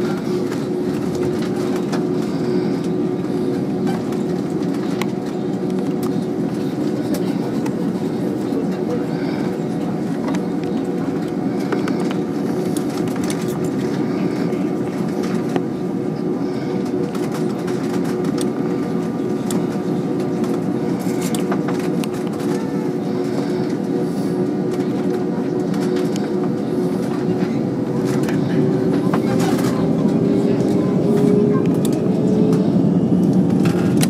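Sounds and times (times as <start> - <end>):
jet engines humming: 0.0 - 34.0.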